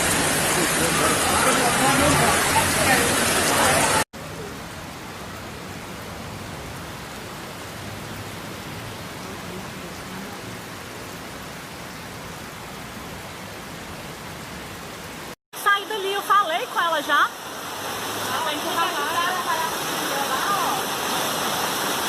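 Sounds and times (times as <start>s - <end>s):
heavy rain: 0.0s - 22.0s
rushing floodwater: 0.0s - 22.0s.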